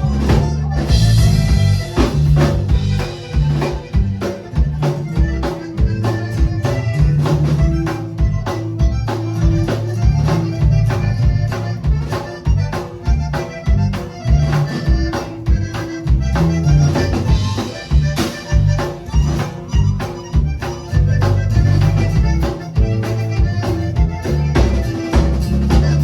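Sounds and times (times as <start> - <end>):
accordion melody: 0.0 - 26.0
bass: 0.0 - 26.0
drums keeping steady beat: 0.0 - 26.0.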